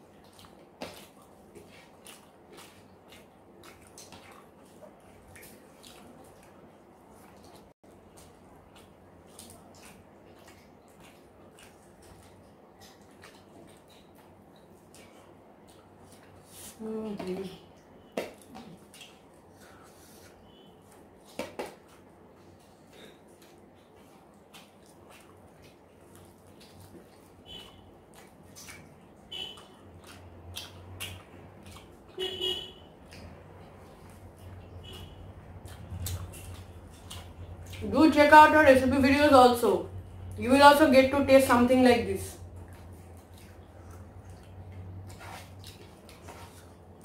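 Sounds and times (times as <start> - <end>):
wet chewing and mouth smacking: 0.0 - 16.8, 17.7 - 39.2, 42.3 - 47.0.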